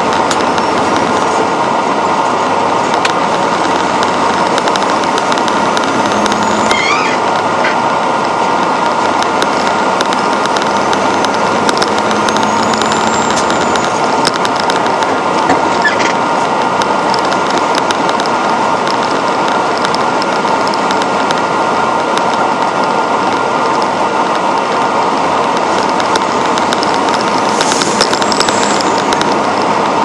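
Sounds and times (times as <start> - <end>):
truck engine and road drone: 0.0 - 30.0.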